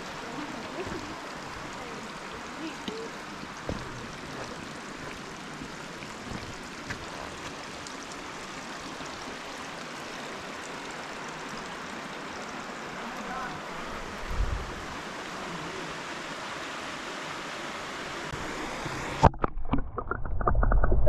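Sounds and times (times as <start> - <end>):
creek and falling water: 0.0 - 21.0.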